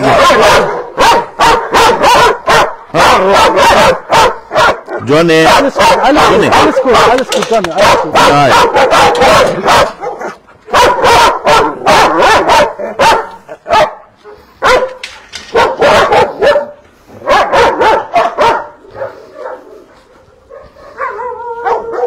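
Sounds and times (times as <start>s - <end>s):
dogs barking: 0.0s - 22.0s.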